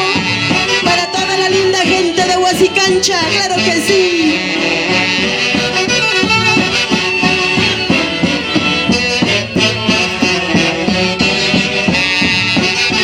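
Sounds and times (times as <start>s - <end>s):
folk band playing instrumental: 0.0s - 13.0s.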